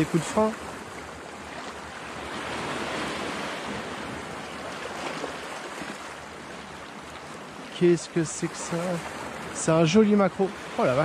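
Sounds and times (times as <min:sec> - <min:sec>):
waves washing on shore: 0:00.0 - 0:11.0.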